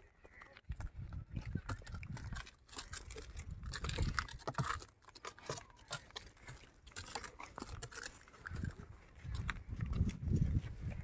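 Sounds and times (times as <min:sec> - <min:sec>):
hooves on dry dirt and straw: 0:00.0 - 0:11.0.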